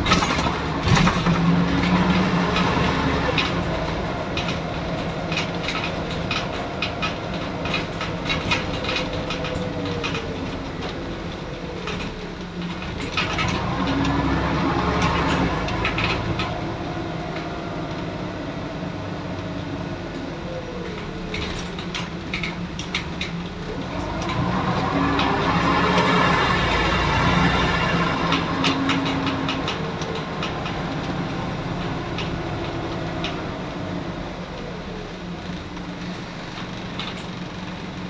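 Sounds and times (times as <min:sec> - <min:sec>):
bus body rattles and clicks: 0:00.0 - 0:38.0
bus engine and transmission whine: 0:00.0 - 0:38.0.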